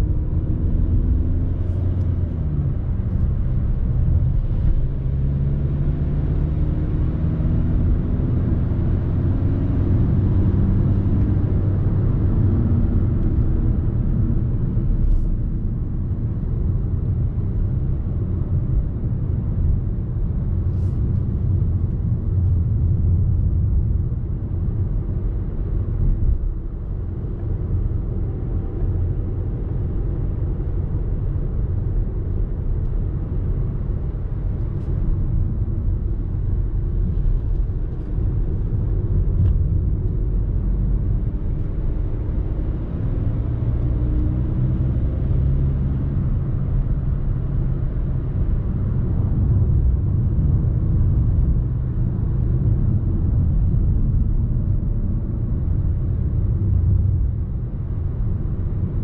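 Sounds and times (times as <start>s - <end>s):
car engine driving: 0.0s - 59.0s.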